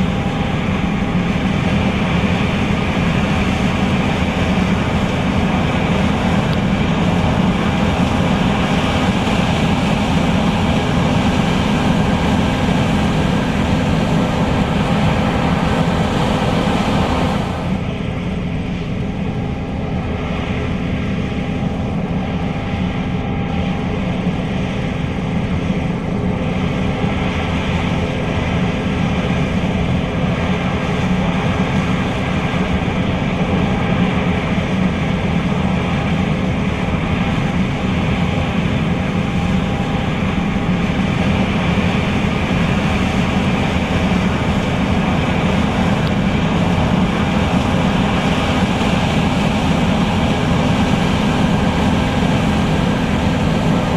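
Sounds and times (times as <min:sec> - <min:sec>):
combine harvester engine drone: 0:00.0 - 0:53.9.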